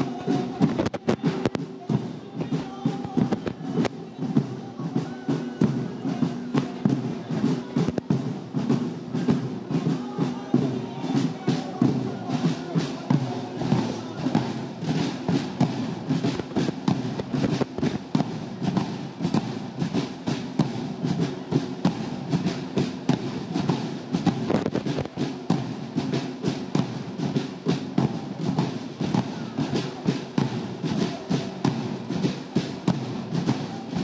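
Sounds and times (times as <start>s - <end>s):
marching drums: 0.0s - 34.0s.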